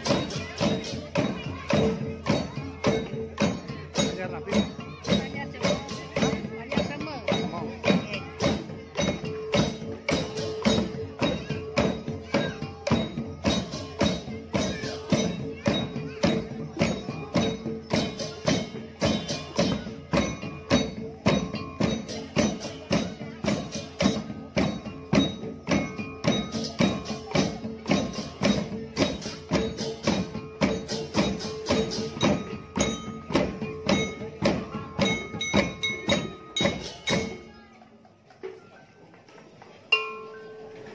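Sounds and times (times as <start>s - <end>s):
cymbals: 0.0s - 37.6s
wooden bells clattering: 0.0s - 37.9s
drums: 0.0s - 40.9s.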